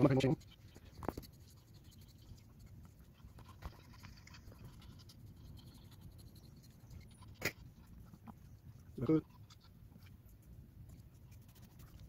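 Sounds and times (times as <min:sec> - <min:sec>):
brush scratching through dog fur: 0:00.0 - 0:12.0.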